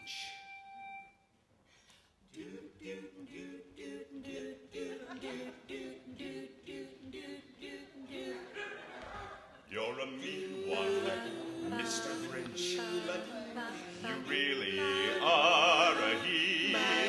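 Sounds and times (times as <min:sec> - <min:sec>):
a cappella group singing: 0:02.3 - 0:17.0.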